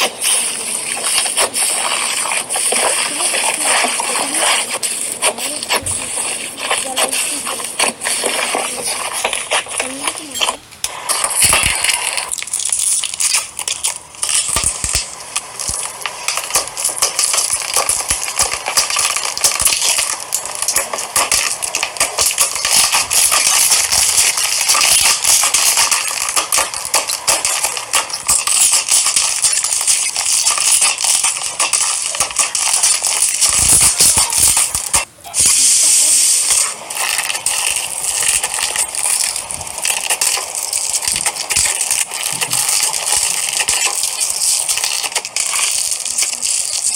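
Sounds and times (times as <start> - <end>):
slime crackling and popping: 0.0 - 46.9.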